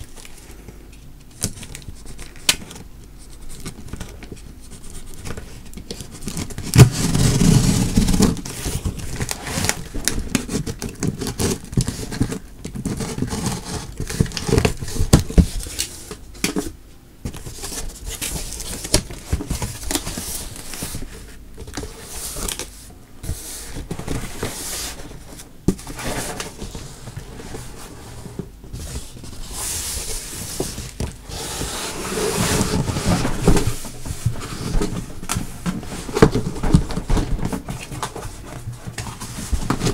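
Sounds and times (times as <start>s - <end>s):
cardboard scraping and rustling: 1.4s - 39.9s.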